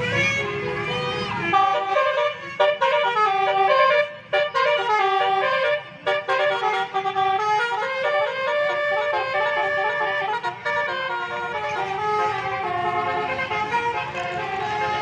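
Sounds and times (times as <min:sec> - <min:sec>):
multi-tone horn melody: 0:00.0 - 0:15.0.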